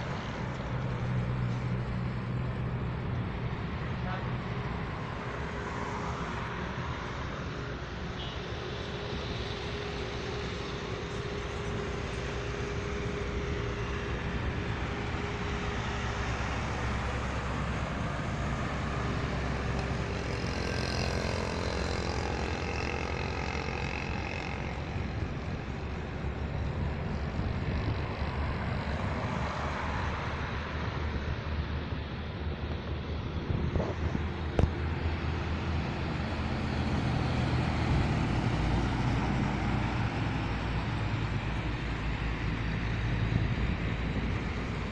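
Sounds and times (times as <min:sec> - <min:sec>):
heavy trucks passing: 0:00.0 - 0:44.9.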